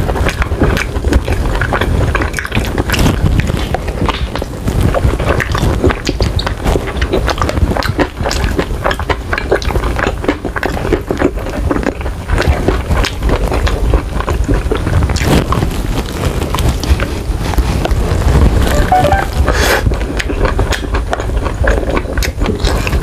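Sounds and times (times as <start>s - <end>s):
chewing and lip-smacking: 0.0s - 18.7s, 19.4s - 23.0s.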